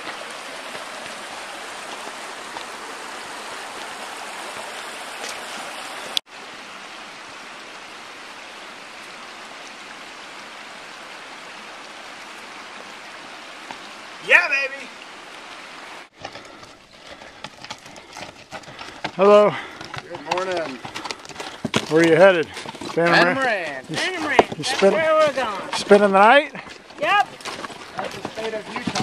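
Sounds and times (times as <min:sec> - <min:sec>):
creek running over rocks: 0:00.0 - 0:29.0.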